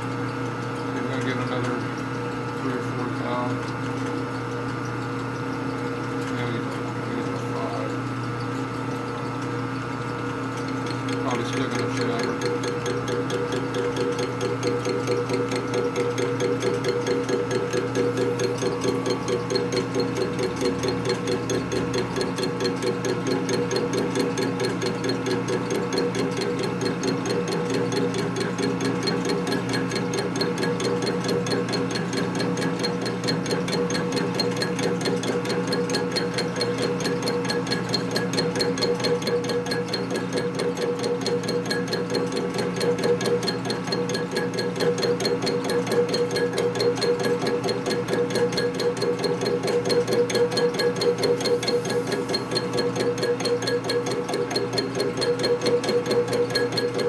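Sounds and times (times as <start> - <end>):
milling machine cutting metal: 10.1 - 57.0.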